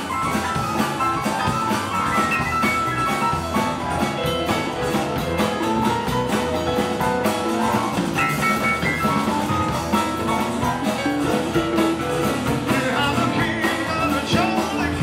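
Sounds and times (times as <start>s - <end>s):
acoustic guitars: 0.0s - 15.0s
drum kit steady beat: 0.0s - 15.0s.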